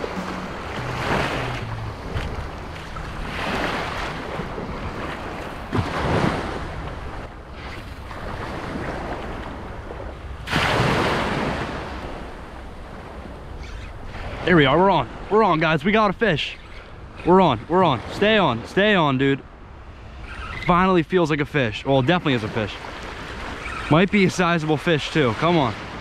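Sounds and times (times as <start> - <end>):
small waves washing on shore: 0.0 - 26.0.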